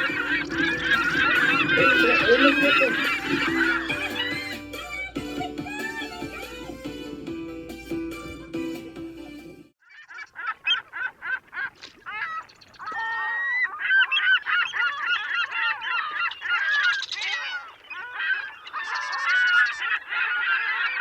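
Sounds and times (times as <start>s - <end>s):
geese honking: 0.0s - 6.7s, 10.0s - 21.0s.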